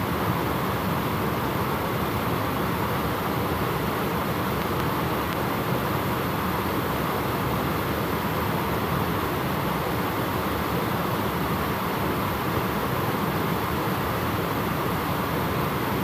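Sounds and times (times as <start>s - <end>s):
stream water rushing over a weir: 0.1s - 16.0s.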